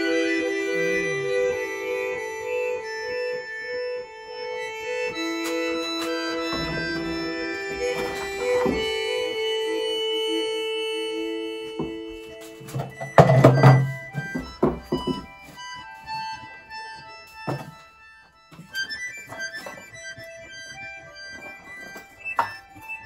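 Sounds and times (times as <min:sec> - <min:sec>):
instrumental music with held notes: 0:00.0 - 0:23.0.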